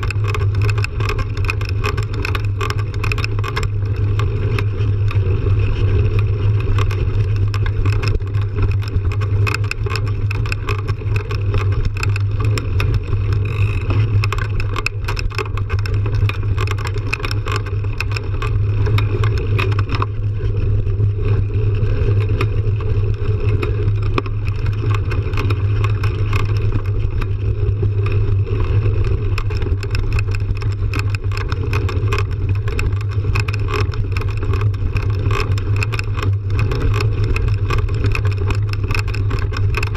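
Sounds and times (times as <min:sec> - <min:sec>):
bike and gravel rattling: 0:00.0 - 0:39.9
bike tyres on dirt: 0:00.0 - 0:39.9.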